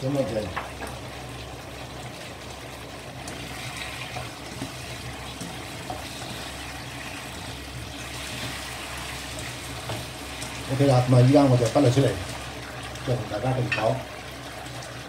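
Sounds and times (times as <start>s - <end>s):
sauce bubbling and sizzling: 0.0s - 15.0s.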